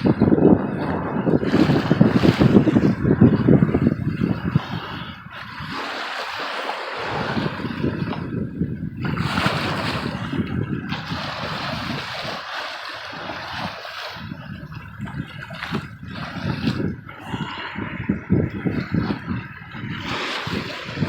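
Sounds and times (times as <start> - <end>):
ocean water splashing: 0.0 - 21.0
wind buffeting microphone: 0.0 - 21.0.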